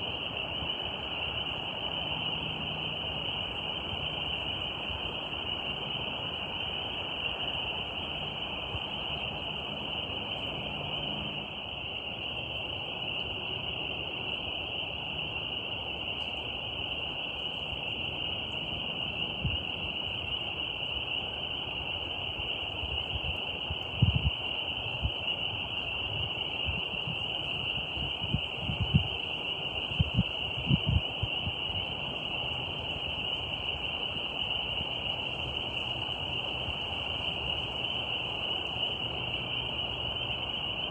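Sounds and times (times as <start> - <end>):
night insects droning: 0.0 - 40.9.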